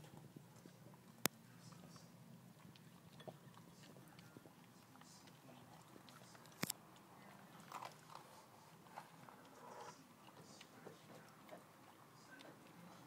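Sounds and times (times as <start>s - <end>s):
puppy chewing softly: 0.0s - 13.0s.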